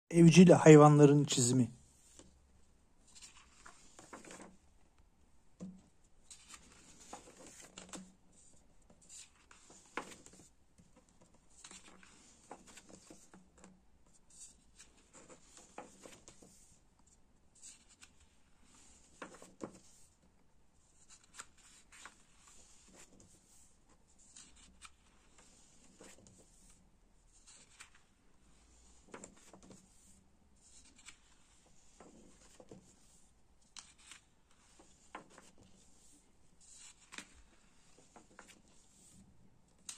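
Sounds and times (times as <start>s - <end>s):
book pages turning: 3.0s - 4.6s, 5.6s - 16.8s, 17.6s - 20.2s, 20.9s - 39.2s.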